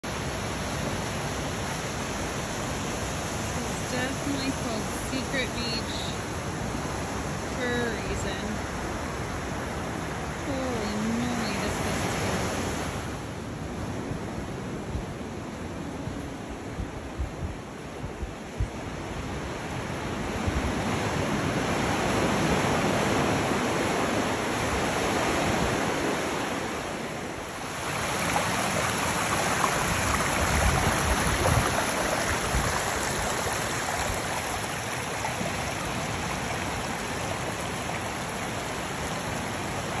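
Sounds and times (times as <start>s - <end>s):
ocean surf rushing over rocks: 0.0s - 40.0s.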